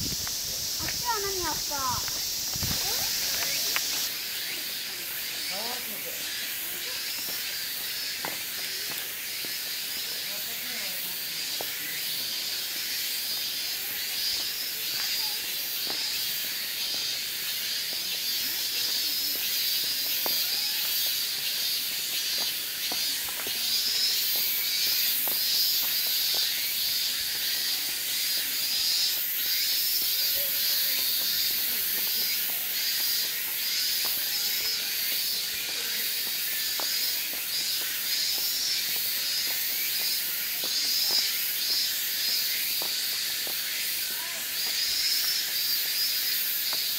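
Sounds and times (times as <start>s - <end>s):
cicadas chorus: 0.0s - 46.9s.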